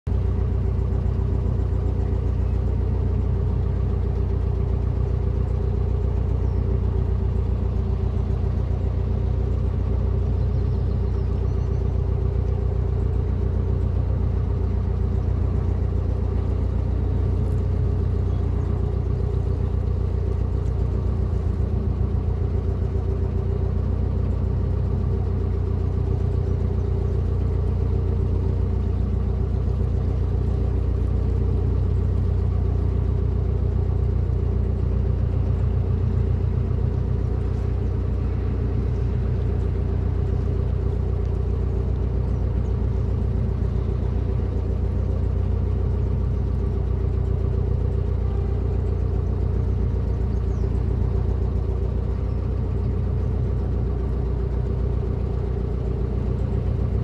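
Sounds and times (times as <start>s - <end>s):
boat diesel engine running: 0.0s - 57.0s.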